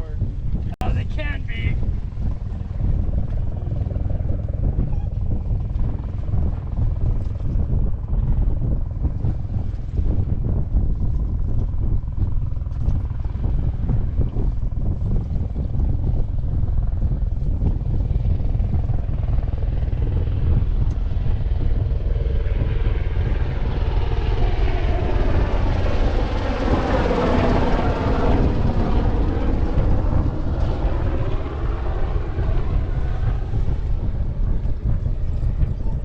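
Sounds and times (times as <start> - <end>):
aircraft flying over: 0.0 - 36.0
wind rumble on microphone: 0.0 - 36.0.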